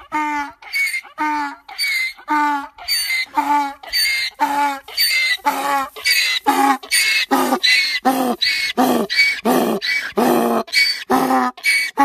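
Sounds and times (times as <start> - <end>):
donkey braying: 0.0 - 12.0.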